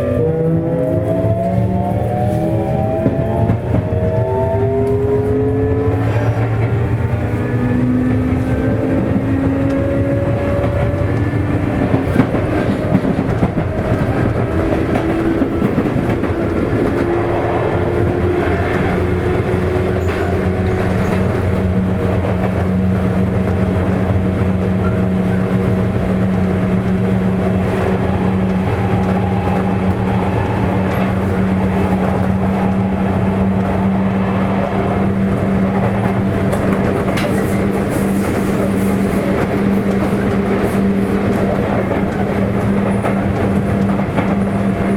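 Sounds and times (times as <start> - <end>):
traction motor whine: 0.0 - 37.9
wheels rumbling on rail: 0.0 - 44.9.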